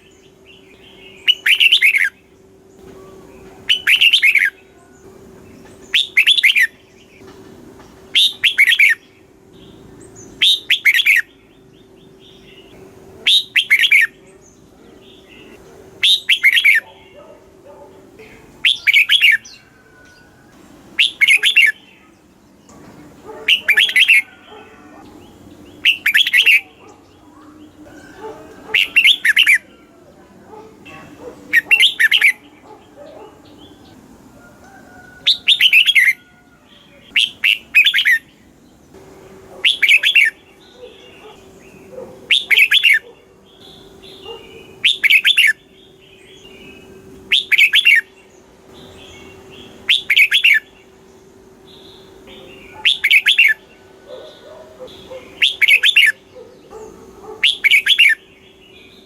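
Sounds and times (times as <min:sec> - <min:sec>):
bird warbling song: 0:00.0 - 0:59.0
faint bird chirping: 0:00.0 - 0:59.0.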